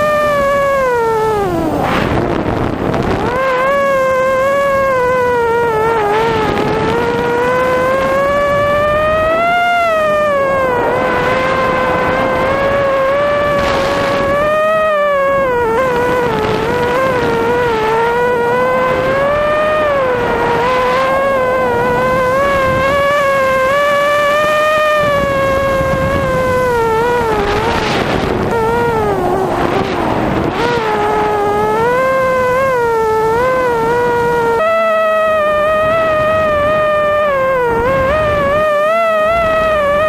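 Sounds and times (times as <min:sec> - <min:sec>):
small engine droning: 0:00.0 - 0:40.0.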